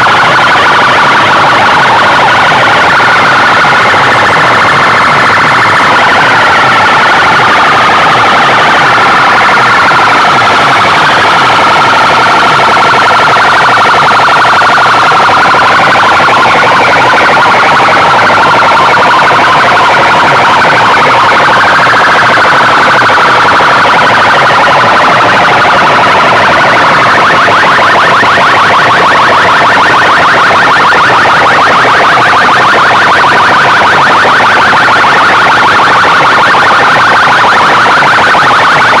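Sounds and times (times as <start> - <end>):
distorted electronic siren tone: 0.0 - 39.0.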